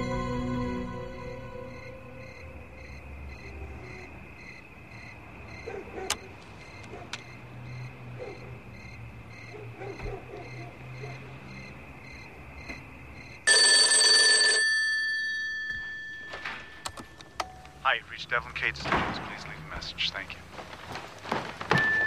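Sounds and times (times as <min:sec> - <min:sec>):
crickets chirping: 0:00.4 - 0:13.5, 0:16.6 - 0:22.0.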